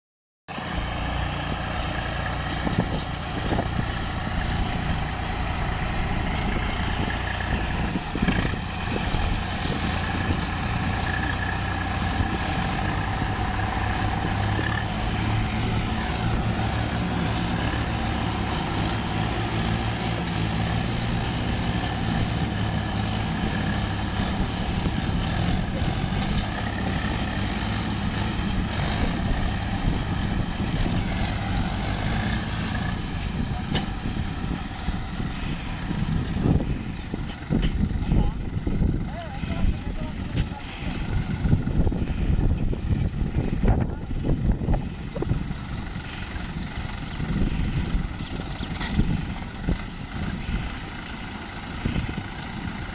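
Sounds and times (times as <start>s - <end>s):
tractor engines under heavy load: 0.5s - 52.9s.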